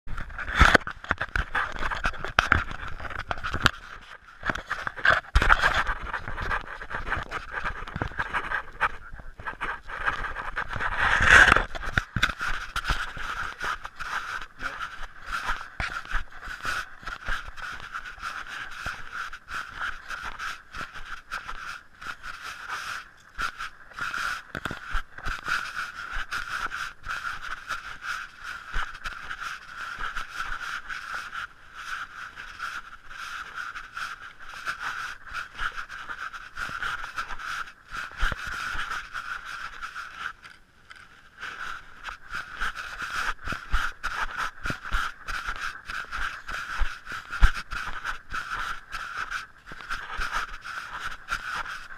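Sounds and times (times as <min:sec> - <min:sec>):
camera handling scraping: 0:00.2 - 0:51.9
steady hiss: 0:07.7 - 0:51.9.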